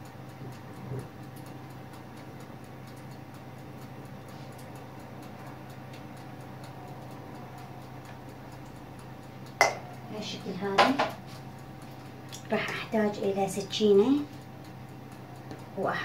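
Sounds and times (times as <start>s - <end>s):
faint evenly spaced ticks: 0.0s - 16.0s
steady low hum: 0.0s - 16.0s.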